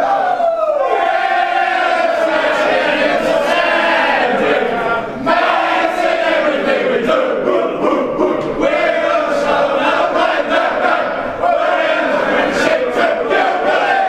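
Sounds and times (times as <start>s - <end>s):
players singing loudly together: 0.0s - 14.0s.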